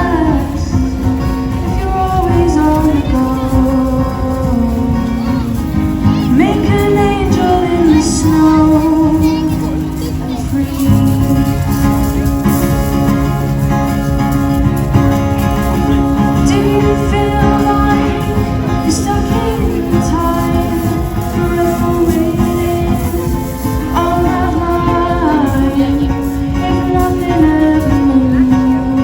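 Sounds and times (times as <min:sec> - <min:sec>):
person singing: 0:00.0 - 0:12.9, 0:14.8 - 0:29.0
guitar accompaniment: 0:00.0 - 0:29.0.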